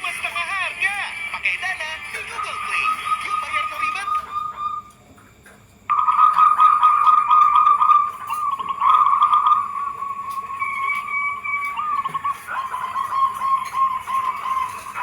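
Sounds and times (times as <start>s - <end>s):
doves cooing in trills: 2.2s - 15.0s.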